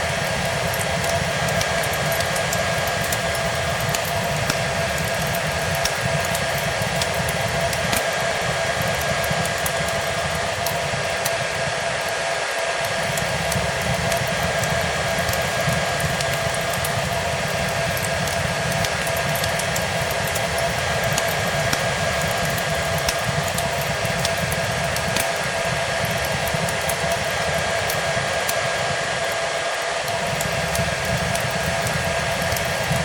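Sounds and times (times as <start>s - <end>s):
hair dryer running: 0.0s - 33.0s
wood fire crackling: 0.0s - 33.0s.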